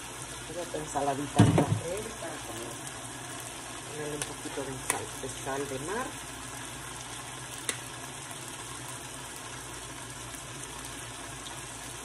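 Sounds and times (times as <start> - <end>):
meat and peppers sizzling in a pan: 0.0 - 12.0.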